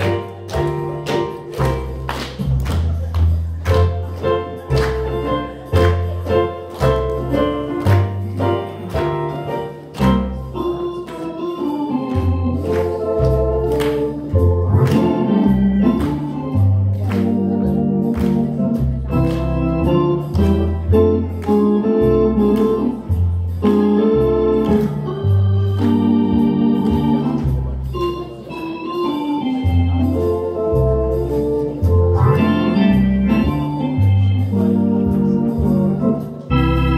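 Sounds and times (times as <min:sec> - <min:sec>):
organ playing a tune: 0:00.0 - 0:36.9.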